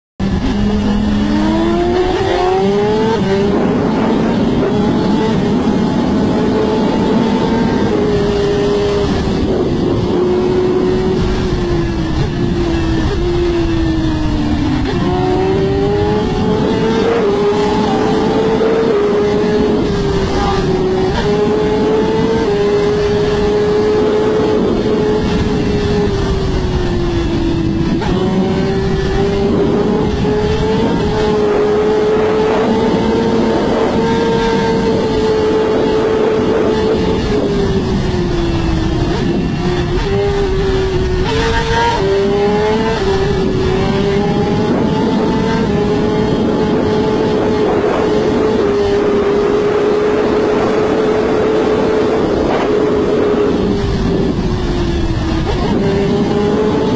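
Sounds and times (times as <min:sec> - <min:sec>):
motorcycle engine at high revs: 0:00.2 - 0:56.9
wind rushing: 0:00.2 - 0:56.9.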